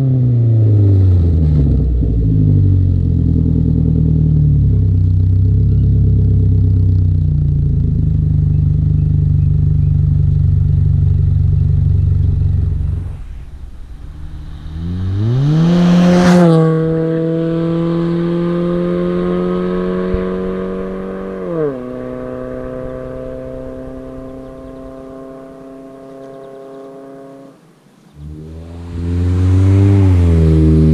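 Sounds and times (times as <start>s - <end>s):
engine revving: 0.0s - 27.6s, 28.2s - 30.9s
car engine exhaust drone: 0.0s - 30.9s.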